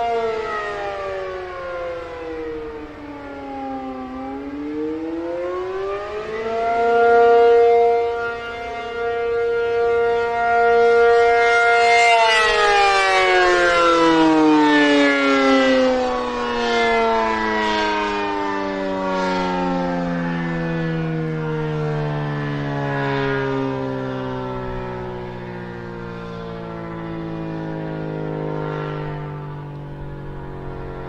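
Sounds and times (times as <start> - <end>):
warning siren rising and falling: 0.0 - 31.0.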